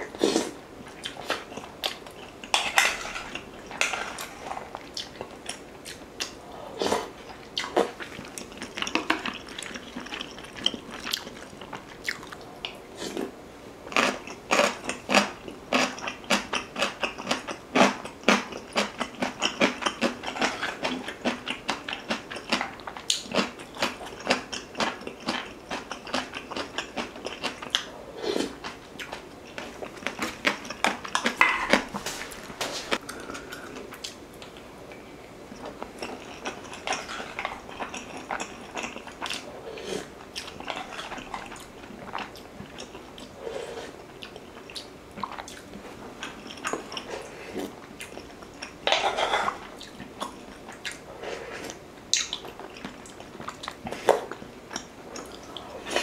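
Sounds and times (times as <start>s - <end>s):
wet chewing and mouth sounds: 0.2s - 13.3s, 13.9s - 34.7s, 35.5s - 56.0s.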